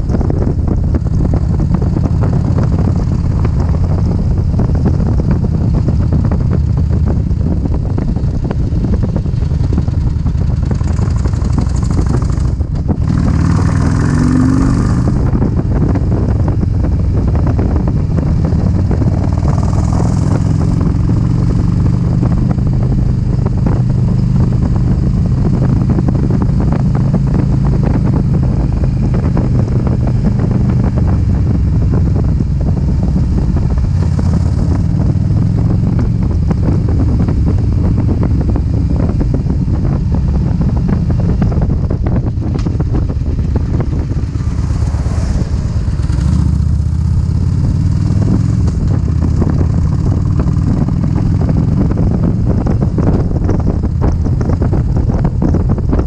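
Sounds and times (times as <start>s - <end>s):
motorcycle engine running: 0.0s - 56.0s
wind and road rush: 0.0s - 56.0s.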